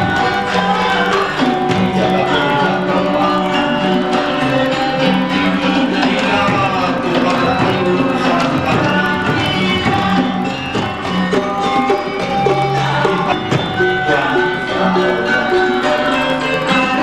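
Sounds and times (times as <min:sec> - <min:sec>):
instrumental music: 0:00.0 - 0:17.0
percussive strikes: 0:00.0 - 0:17.0.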